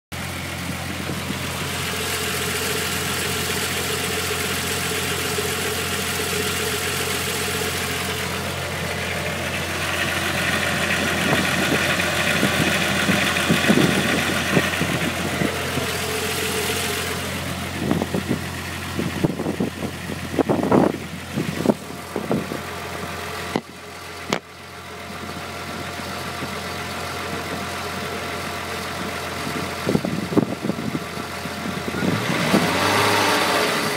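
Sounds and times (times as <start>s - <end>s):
car engine idling with rattle: 0.1s - 33.9s.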